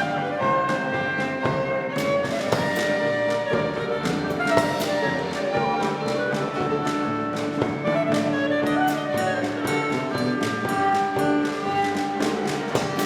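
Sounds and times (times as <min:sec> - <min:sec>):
klezmer band playing dance tune: 0:00.0 - 0:13.0.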